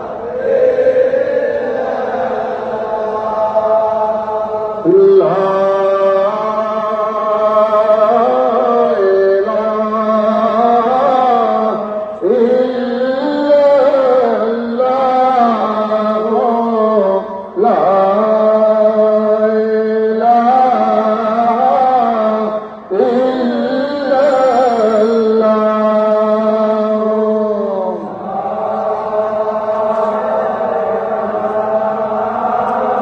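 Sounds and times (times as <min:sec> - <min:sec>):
person chanting melodically: 0:00.0 - 0:33.0.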